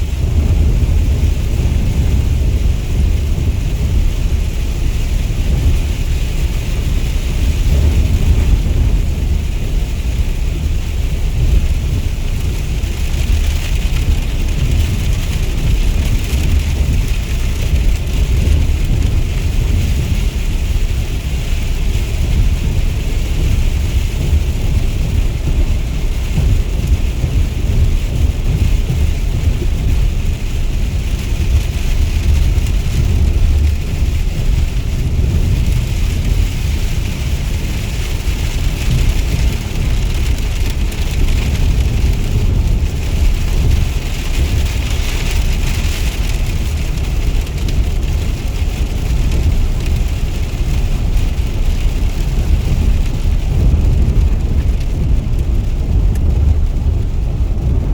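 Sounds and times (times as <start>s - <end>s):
deep low rumble: 0.0s - 57.9s
rain hissing: 0.0s - 57.9s.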